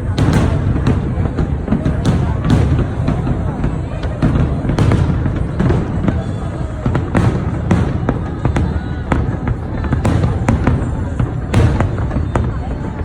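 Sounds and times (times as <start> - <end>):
fireworks bangs: 0.0 - 13.0
low rumble of explosions: 0.0 - 13.0.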